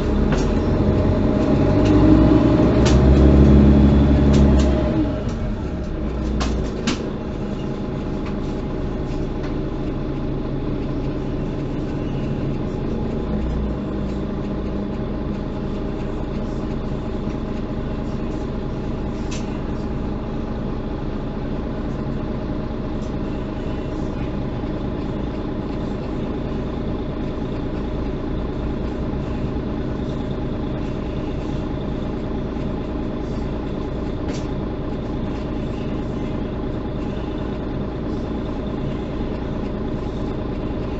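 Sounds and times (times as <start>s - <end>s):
bus engine drone: 0.0s - 40.9s.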